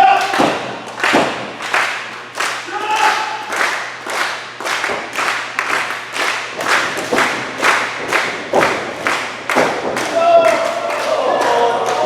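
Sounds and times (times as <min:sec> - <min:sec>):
crowd clapping in unison: 0:00.1 - 0:12.0.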